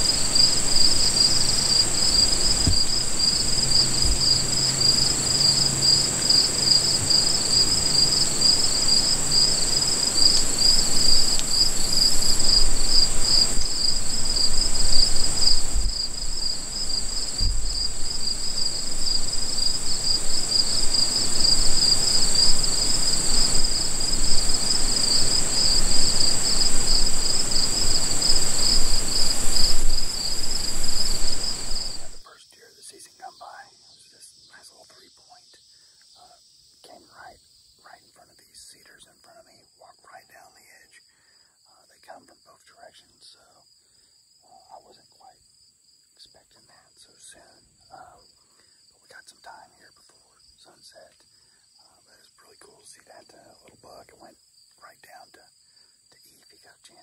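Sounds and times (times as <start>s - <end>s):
insects trilling high: 0.0s - 57.0s
lower pulsing insect trill: 0.0s - 57.0s.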